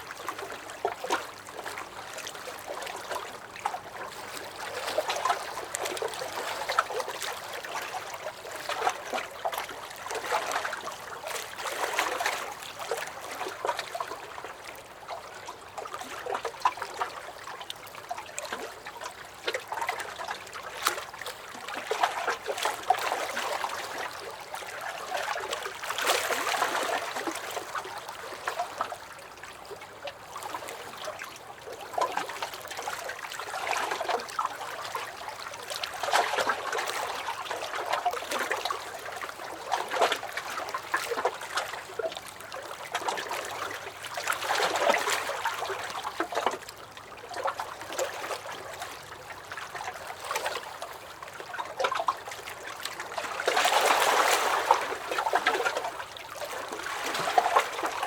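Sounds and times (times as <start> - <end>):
waves lapping against a dock: 0.0 - 58.0.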